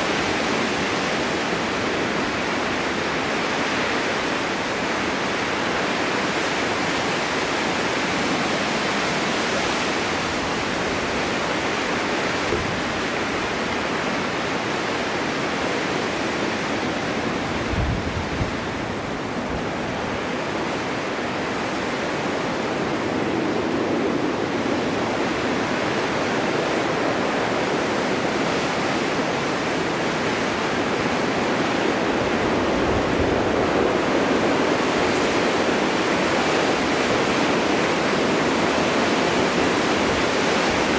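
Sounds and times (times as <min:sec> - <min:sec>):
snowstorm wind blowing: 0:00.0 - 0:40.9.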